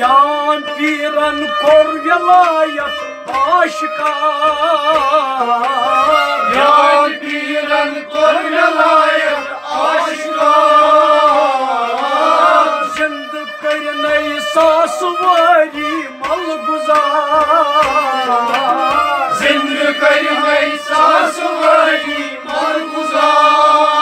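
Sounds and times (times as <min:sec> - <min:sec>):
harmonium and string instruments: 0:00.0 - 0:24.0
man singing: 0:00.0 - 0:24.0.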